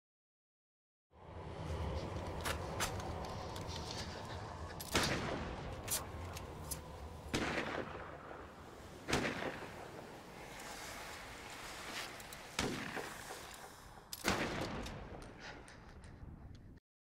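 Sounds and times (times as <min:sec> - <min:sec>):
steady low rumble: 0:01.1 - 0:16.8.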